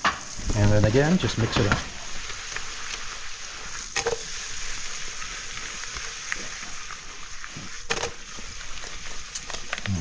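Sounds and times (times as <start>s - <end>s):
zucchini sizzling in butter: 0.0s - 10.0s.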